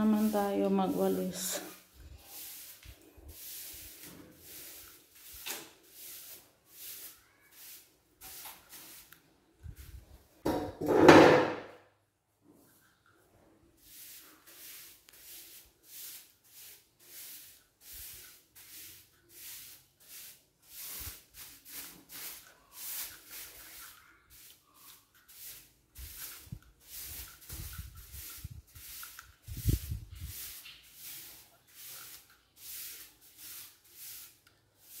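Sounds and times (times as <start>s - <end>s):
broom sweeping a tiled floor: 0.0s - 11.8s, 12.4s - 35.0s.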